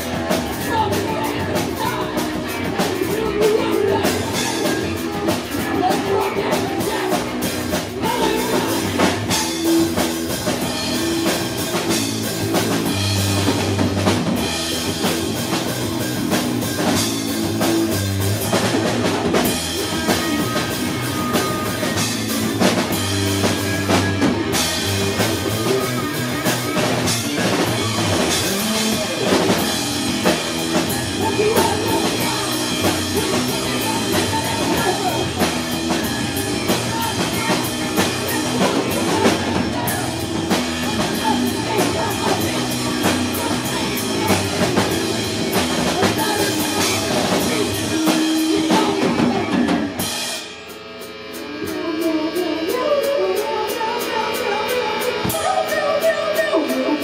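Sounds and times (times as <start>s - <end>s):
drum kit: 0.0s - 57.0s
live rock band playing: 0.0s - 57.0s.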